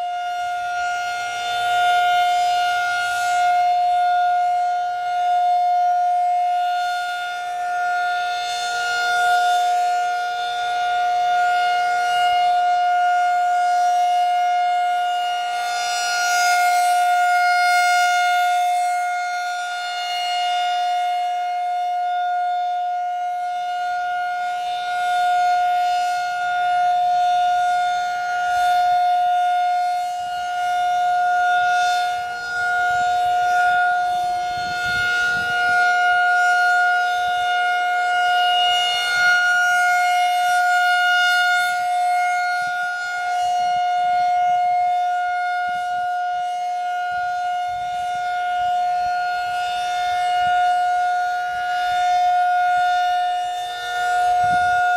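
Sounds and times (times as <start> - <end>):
rotating tornado siren: 0.0 - 54.9.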